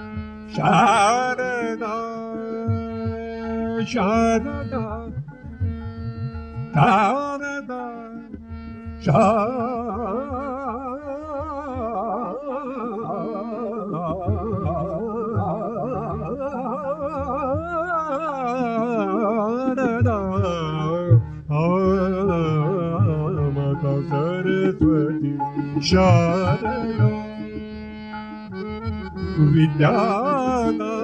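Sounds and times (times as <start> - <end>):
devotional song with vibrato: 0.0 - 31.0.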